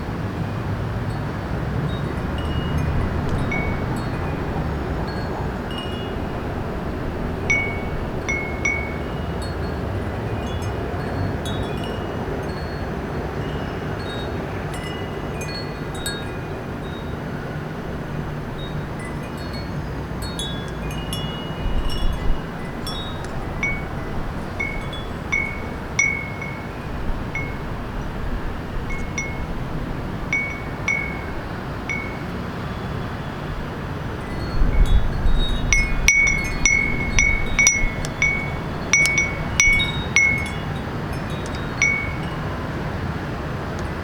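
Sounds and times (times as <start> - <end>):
city hum: 0.0 - 44.0
wind chime ringing: 1.9 - 17.4, 18.5 - 32.7, 34.2 - 42.8.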